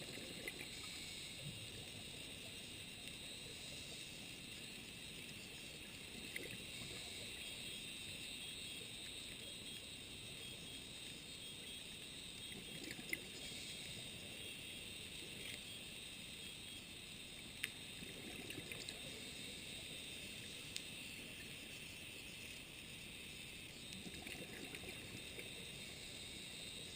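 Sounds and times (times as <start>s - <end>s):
faint underwater hiss: 0.0s - 26.9s.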